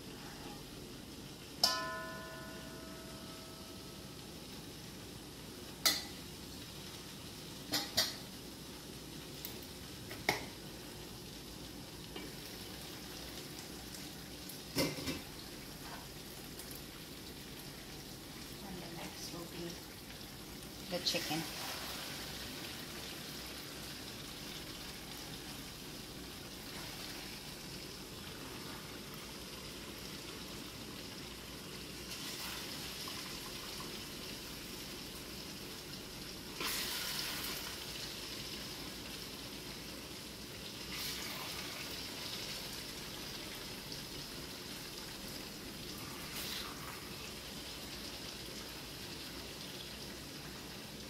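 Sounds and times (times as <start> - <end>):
curry simmering in a frying pan: 0.0 - 51.0.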